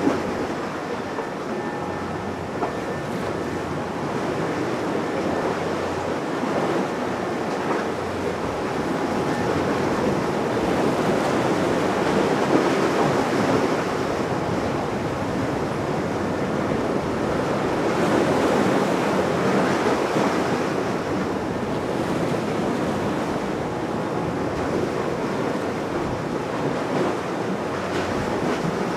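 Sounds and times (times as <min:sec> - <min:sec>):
waves: 0:00.0 - 0:28.9.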